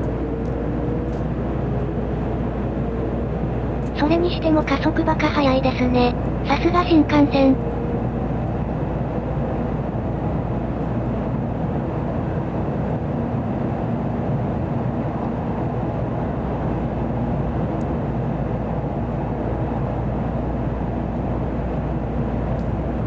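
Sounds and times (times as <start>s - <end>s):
train cabin rumble and rushing: 0.0s - 23.0s.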